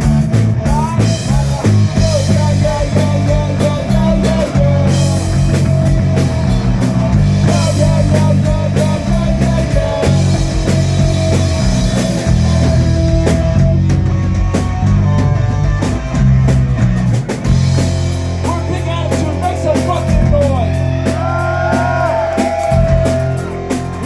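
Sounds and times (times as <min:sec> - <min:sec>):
drum kit steady beat: 0:00.0 - 0:24.0
live rock band instrumental: 0:00.0 - 0:24.0.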